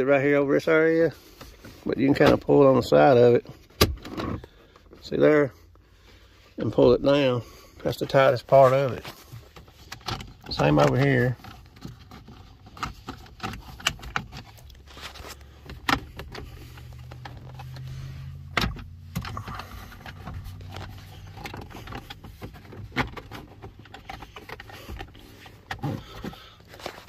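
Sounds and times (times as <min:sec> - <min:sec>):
low steady hum: 0:01.4 - 0:27.0.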